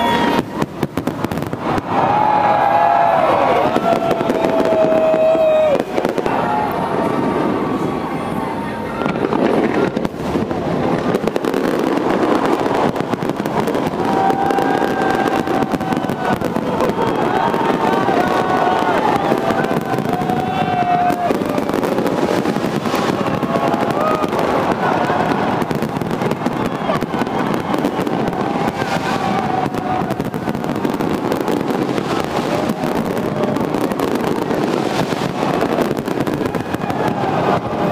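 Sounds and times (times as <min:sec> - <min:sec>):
fireworks crackling: 0:00.0 - 0:37.9.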